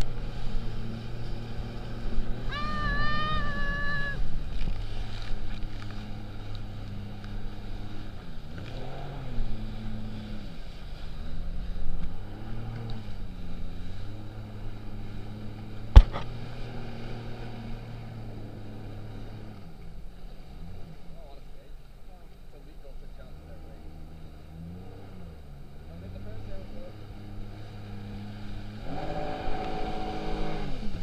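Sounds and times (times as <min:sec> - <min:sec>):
jet ski engine: 0:00.0 - 0:31.0
water rushing: 0:00.0 - 0:31.0.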